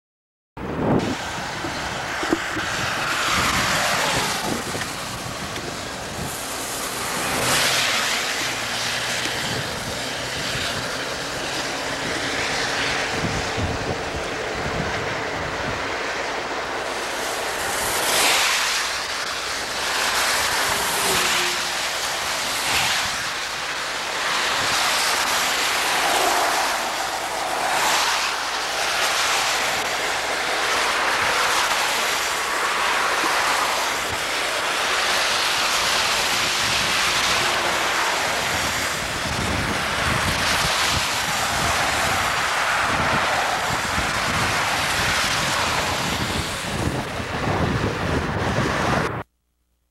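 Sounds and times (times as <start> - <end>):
tyres hissing on wet road: 0.6 - 49.2
wind buffeting microphone: 0.6 - 49.2.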